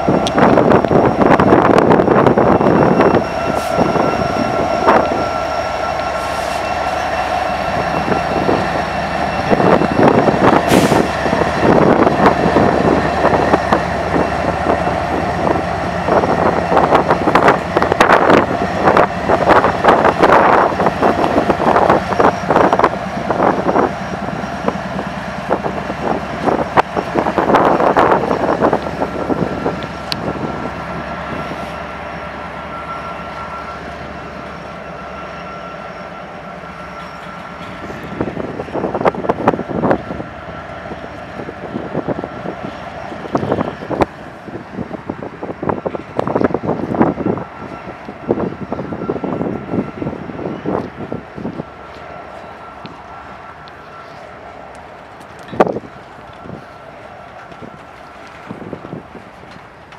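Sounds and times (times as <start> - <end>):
diesel locomotives passing: 0.0 - 59.9.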